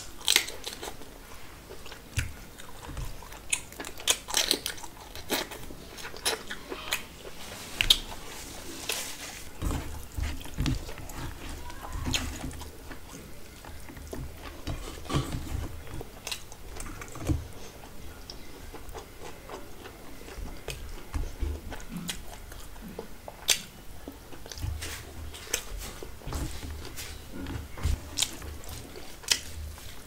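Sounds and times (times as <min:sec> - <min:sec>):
chewing food: 0:00.0 - 0:30.0.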